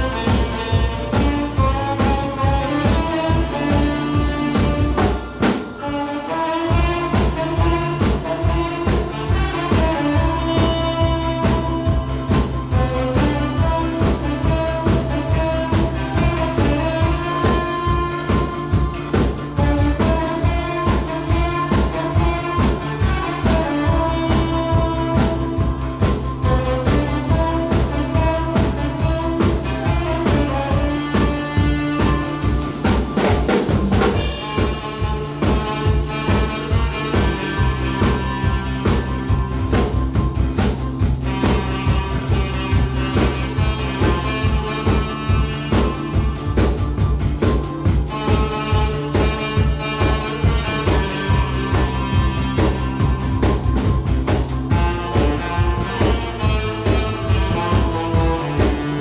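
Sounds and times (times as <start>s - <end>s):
backing track: 0.0s - 59.0s
drum kit keeping a beat: 0.0s - 59.0s
saxophone: 0.0s - 59.0s.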